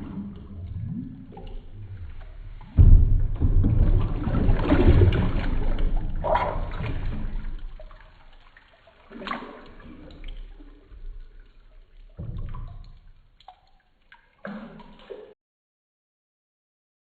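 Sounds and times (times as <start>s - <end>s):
water splashing and sloshing: 0.0s - 15.4s.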